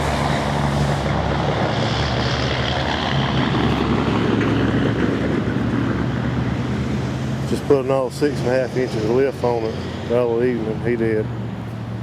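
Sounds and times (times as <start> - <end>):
pickup truck engine droning: 0.0 - 12.0.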